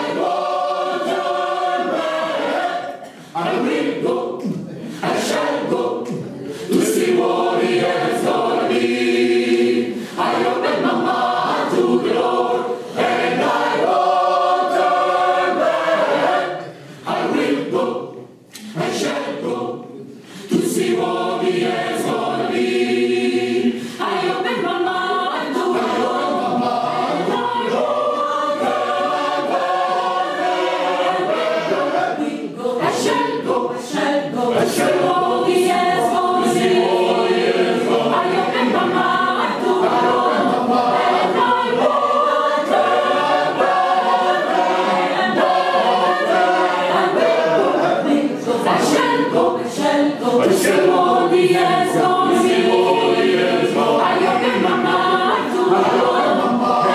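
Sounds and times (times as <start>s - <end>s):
gospel choir singing in harmony: 0.0s - 56.9s.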